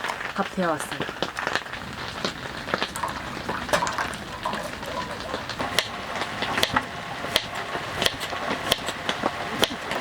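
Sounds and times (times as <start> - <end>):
heavy rain hissing: 0.0 - 10.0
sharp rain taps: 0.0 - 10.0.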